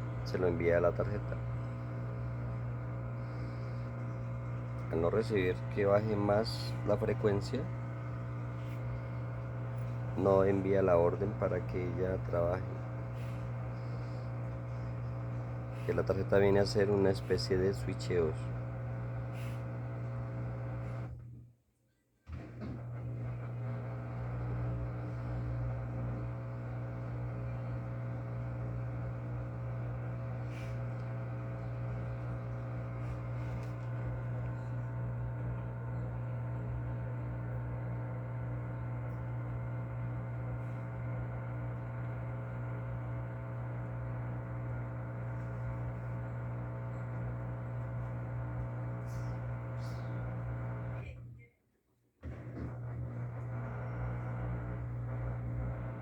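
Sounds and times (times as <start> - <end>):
drain pump humming: 0.0 - 21.2, 22.3 - 51.0, 52.6 - 56.0.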